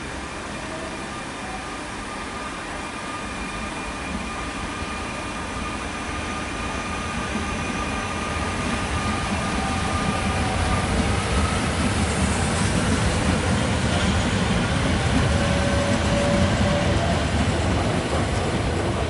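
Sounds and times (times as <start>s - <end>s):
electric train running: 0.2s - 19.0s.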